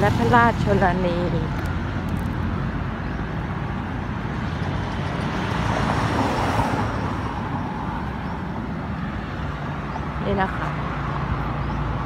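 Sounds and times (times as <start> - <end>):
road traffic noise: 0.0 - 12.0
vehicle passing: 0.0 - 12.0.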